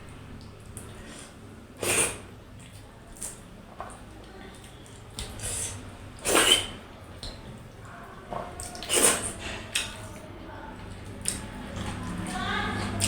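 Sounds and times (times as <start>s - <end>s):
wet mouth eating sounds: 0.1s - 10.2s, 10.9s - 13.0s.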